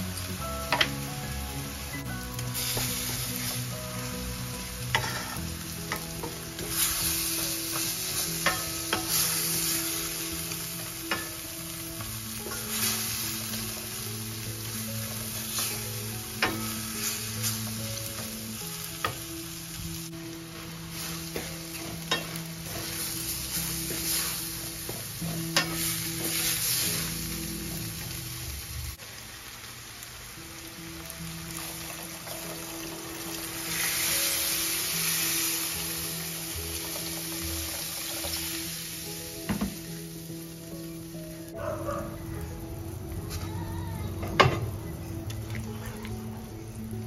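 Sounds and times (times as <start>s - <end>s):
meat sizzling in a frying pan: 0.0s - 47.0s.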